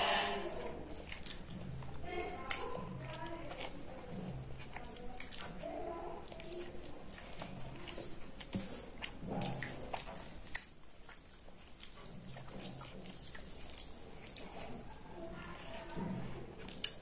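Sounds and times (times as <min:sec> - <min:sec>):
fingers squishing rice: 0:00.0 - 0:17.0
chewing with mouth smacks: 0:00.5 - 0:17.0.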